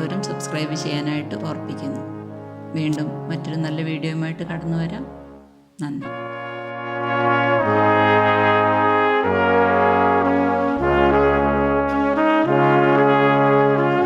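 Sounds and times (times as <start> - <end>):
brass chords music: 0.0 - 14.0.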